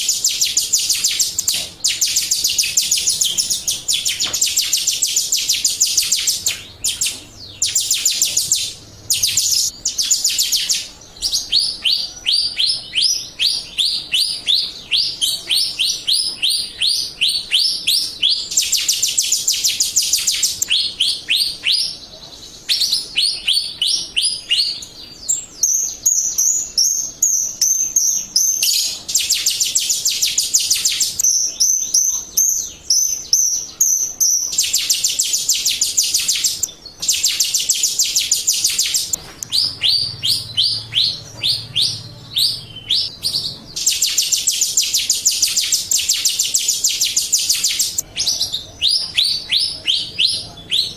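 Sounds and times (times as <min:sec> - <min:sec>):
bird singing sharp repeated notes: 0:00.0 - 0:50.9.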